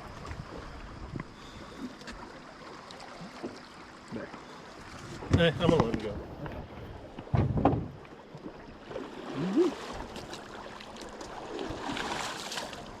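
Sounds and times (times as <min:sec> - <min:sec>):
river water sloshing against boat: 0:00.0 - 0:13.0.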